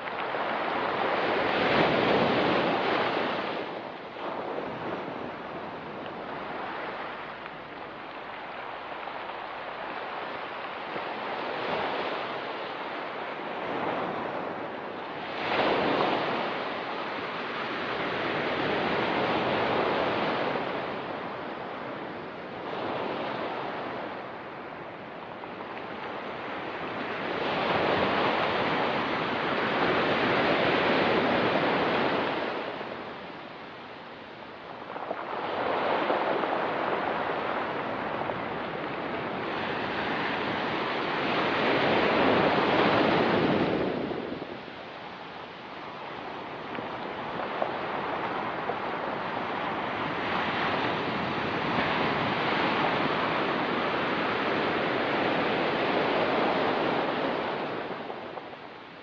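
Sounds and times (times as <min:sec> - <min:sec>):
surf washing on pebble beach: 0:00.0 - 0:59.0.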